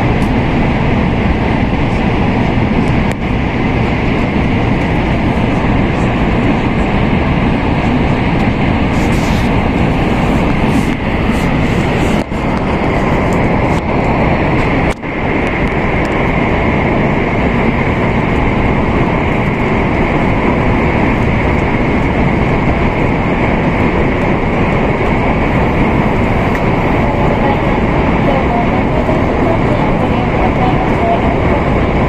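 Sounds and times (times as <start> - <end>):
steady higher hum: 0.0 - 32.0
train running noise: 0.0 - 32.0.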